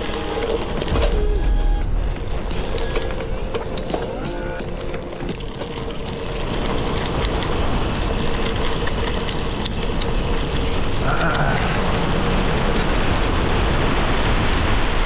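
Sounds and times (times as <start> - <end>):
bike clicks and rattles: 0.0 - 14.6
tyres rumbling over gravel: 0.0 - 15.0
wind buffeting microphone: 0.0 - 15.0.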